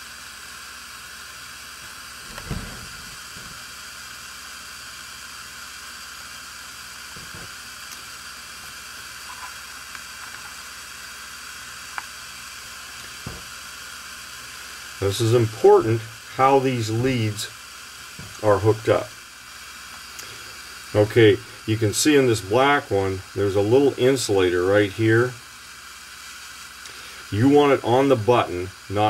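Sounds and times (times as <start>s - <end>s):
gas torch flame hissing: 0.0s - 29.0s.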